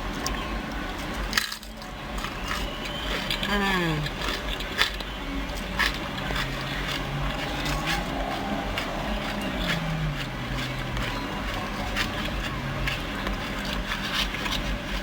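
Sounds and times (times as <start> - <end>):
crunching chips: 0.1 - 15.0.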